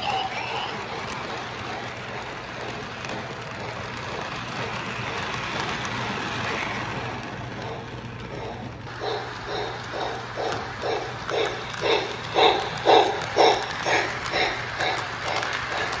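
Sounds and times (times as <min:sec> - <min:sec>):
model train whirring and rattling: 0:00.0 - 0:16.0.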